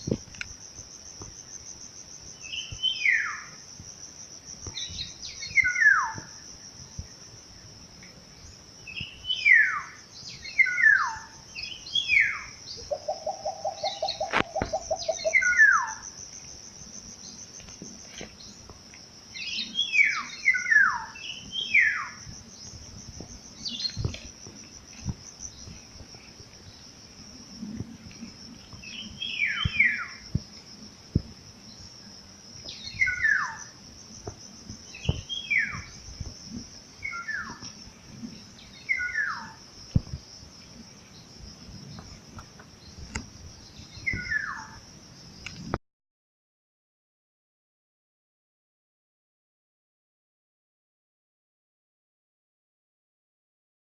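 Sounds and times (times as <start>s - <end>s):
insect trill: 0.0s - 45.8s.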